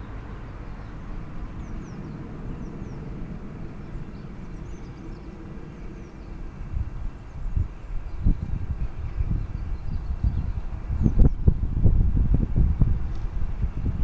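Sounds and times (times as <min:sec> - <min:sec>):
small birds chirping: 0:00.0 - 0:11.5
steady low rumble: 0:00.0 - 0:14.0.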